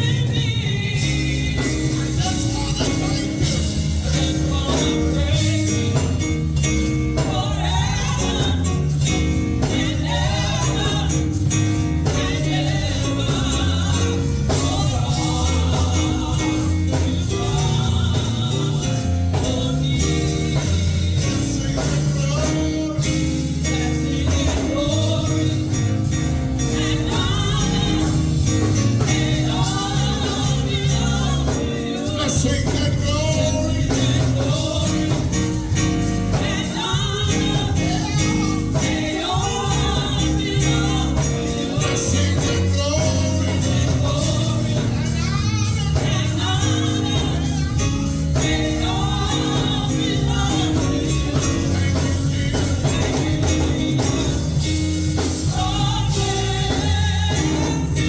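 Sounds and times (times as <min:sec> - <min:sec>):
band with bass and beat: 0:00.0 - 0:58.0
gospel singing: 0:00.0 - 0:58.0.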